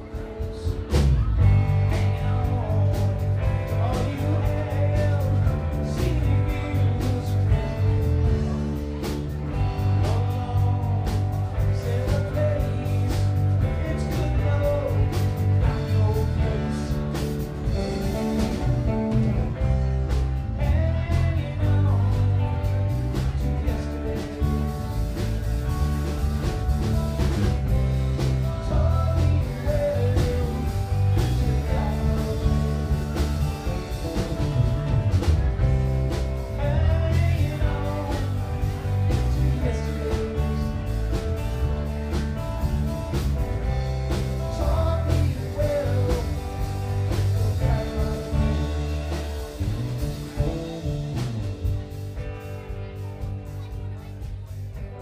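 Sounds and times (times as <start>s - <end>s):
person singing: 0.0s - 26.6s, 27.2s - 41.2s, 44.1s - 51.8s
live rock band playing: 0.0s - 55.0s.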